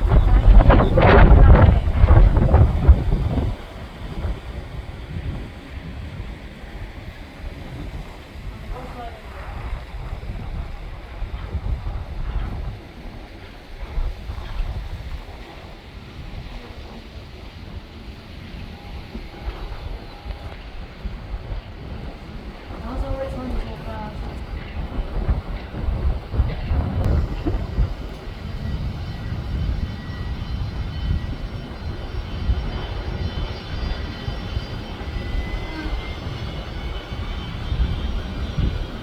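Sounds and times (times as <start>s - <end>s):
airplane engine rumble: 0.0s - 39.0s
faint high whine: 0.0s - 39.0s
wind buffeting microphone: 0.0s - 39.0s.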